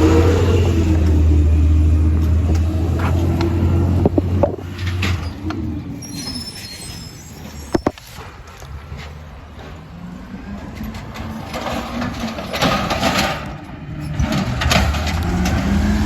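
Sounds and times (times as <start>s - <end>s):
truck engine running: 0.0s - 6.0s, 7.7s - 16.0s.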